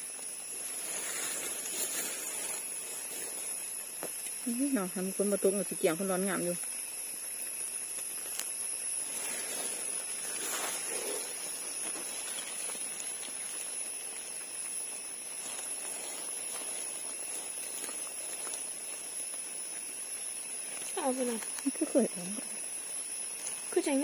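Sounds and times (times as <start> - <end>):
forest background hiss: 0.0 - 24.0.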